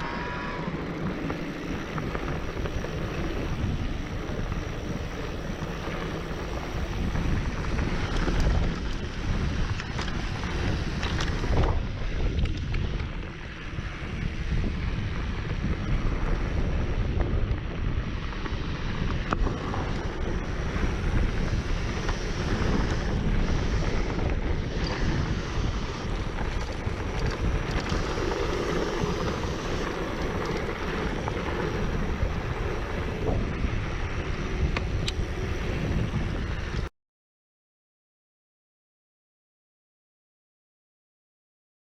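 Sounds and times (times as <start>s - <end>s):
bike tyres rolling on trail: 0.0s - 36.9s
wind rushing over microphone: 0.0s - 36.9s.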